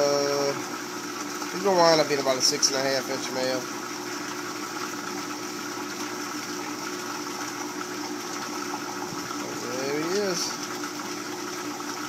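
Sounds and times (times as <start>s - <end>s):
pump humming: 0.0s - 12.0s
water running: 0.0s - 12.0s.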